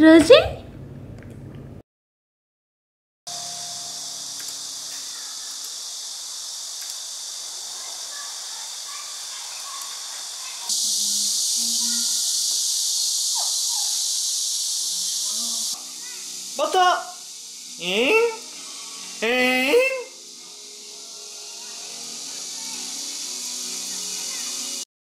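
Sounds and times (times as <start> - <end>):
high-pitched insect chorus: 3.3 - 24.9.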